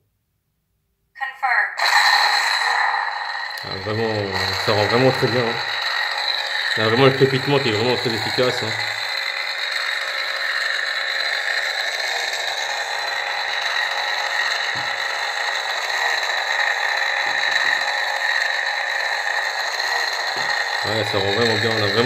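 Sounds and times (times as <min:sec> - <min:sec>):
lightsaber hum with crackling: 0:01.8 - 0:22.0.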